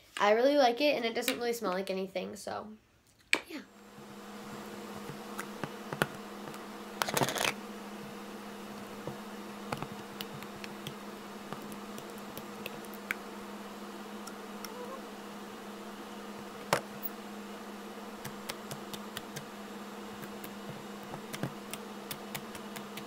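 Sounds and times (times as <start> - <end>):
steady buzzing hum: 3.4 - 23.0.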